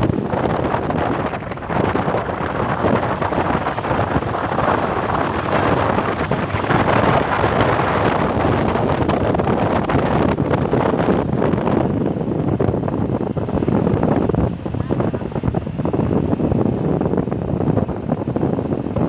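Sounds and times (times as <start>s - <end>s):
road vehicle noise: 0.0s - 19.0s
wind buffeting microphone: 0.0s - 19.0s.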